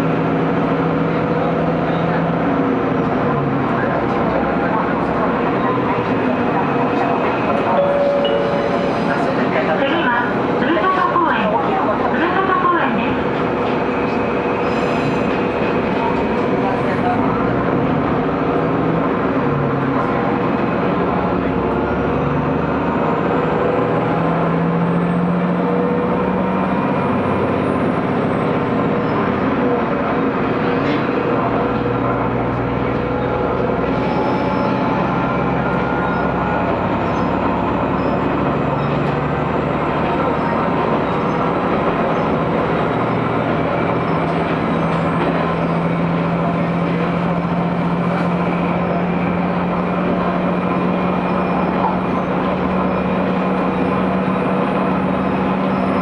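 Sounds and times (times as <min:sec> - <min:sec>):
diesel engine drone: 0:00.0 - 0:56.0
wheel and rail rumble: 0:00.0 - 0:56.0.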